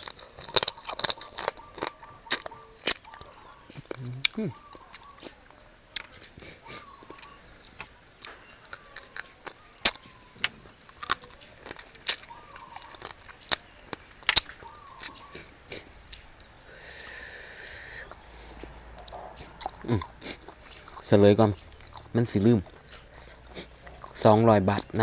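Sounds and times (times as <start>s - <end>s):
chewing and crunching: 0.0s - 16.7s, 18.0s - 25.0s.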